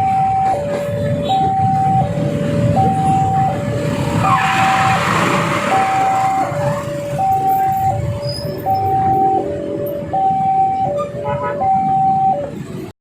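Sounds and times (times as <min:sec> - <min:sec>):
level crossing alarm two-tone: 0:00.0 - 0:12.5
road traffic rumbling: 0:00.0 - 0:13.0.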